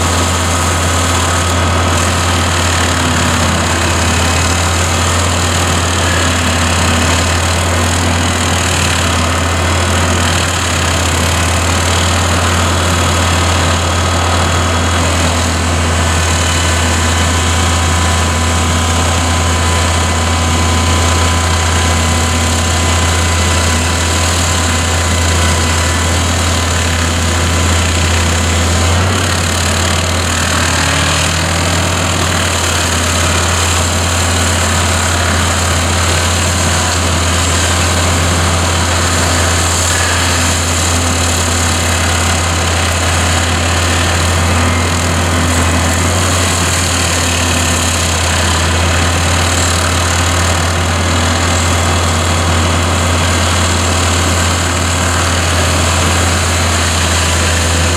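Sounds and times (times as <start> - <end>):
stump grinder cutting wood: 0.0 - 57.9.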